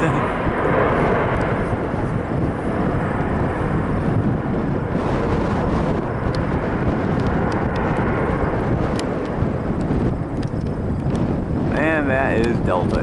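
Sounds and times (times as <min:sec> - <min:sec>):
jet airliner engines rumbling: 0:00.0 - 0:13.0.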